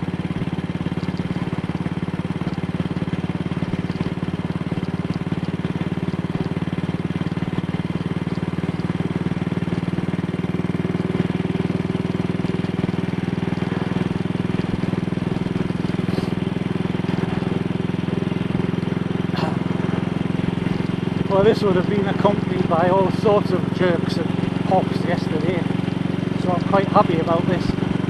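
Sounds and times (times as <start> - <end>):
single-cylinder engine running: 0.0 - 28.0.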